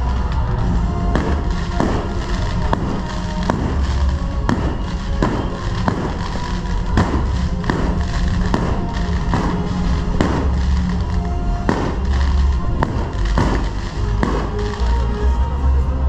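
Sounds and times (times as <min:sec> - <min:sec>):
fireworks bursting with echo: 0:00.0 - 0:16.0
music playing: 0:00.0 - 0:16.0.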